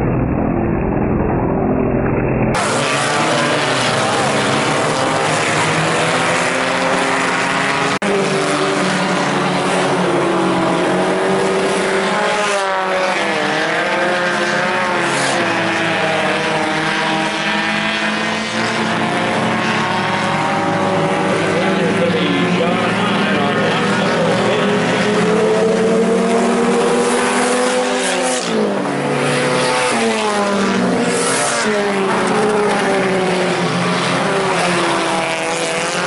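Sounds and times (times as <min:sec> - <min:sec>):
race car engines running hard: 0:00.0 - 0:36.0.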